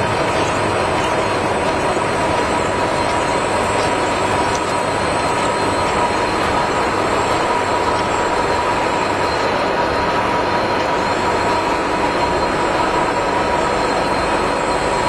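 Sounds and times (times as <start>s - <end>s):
faint machine whine: 0.0s - 15.0s
gear cutting machine running: 0.0s - 15.0s.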